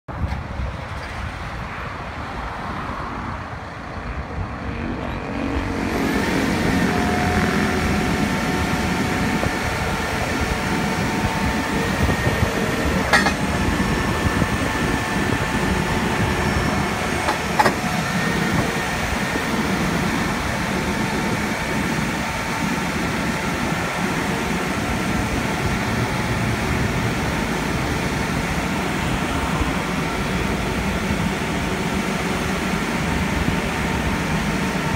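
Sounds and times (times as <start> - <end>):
diesel engine running: 0.2 - 34.9
steady whine: 2.8 - 34.9.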